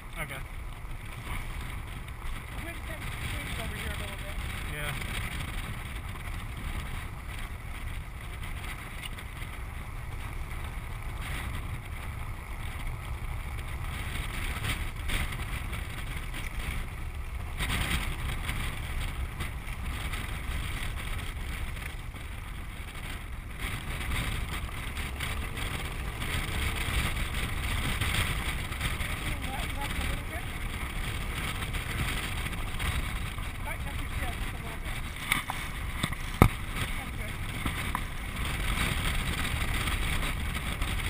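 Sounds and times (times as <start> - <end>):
land yacht rolling rumble: 0.0 - 41.0
wind rush: 0.0 - 41.0.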